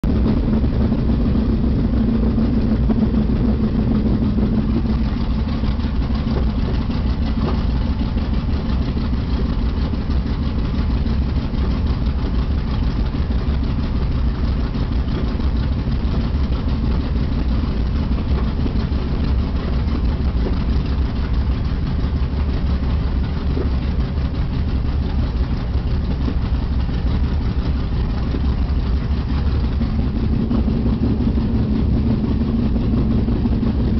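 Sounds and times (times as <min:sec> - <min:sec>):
aircraft engines running: 0:00.0 - 0:33.9.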